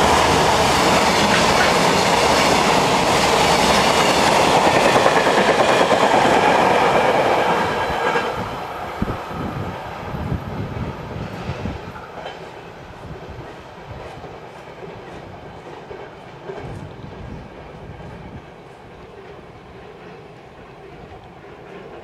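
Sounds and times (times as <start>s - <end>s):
freight train passing: 0.0s - 22.0s.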